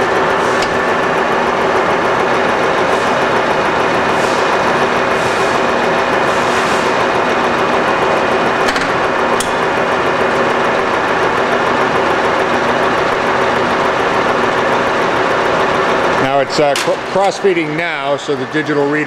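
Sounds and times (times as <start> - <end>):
lathe motor hum and whine: 0.0 - 19.0.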